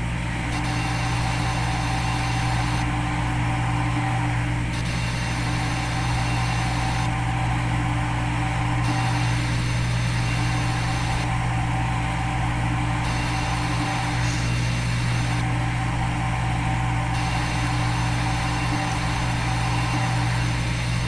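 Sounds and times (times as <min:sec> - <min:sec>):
milling spindle machine hum: 0:00.0 - 0:21.0.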